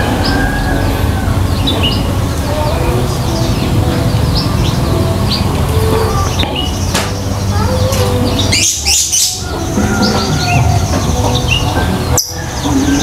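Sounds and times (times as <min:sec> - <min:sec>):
songbirds chirping and whistling: 0:00.0 - 0:13.0
steady low hum: 0:00.0 - 0:13.0.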